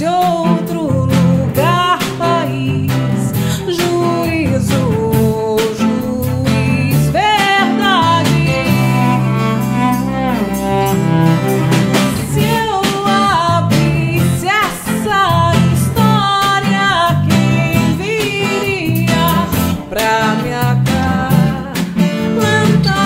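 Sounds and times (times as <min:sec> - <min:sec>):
live band playing instrumental: 0:00.0 - 0:23.0.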